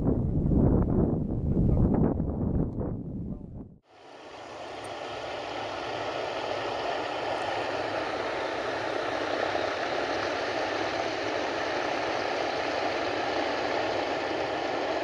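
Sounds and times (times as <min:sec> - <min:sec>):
floatplane engine and propeller droning: 0:02.4 - 0:15.0.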